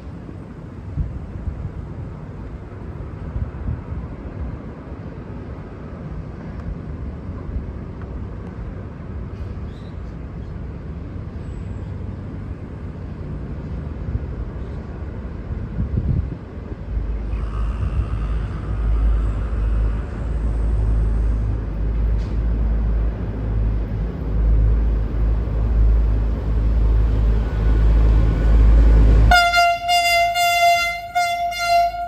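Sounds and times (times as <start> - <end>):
low vehicle rumble: 0.0 - 32.0.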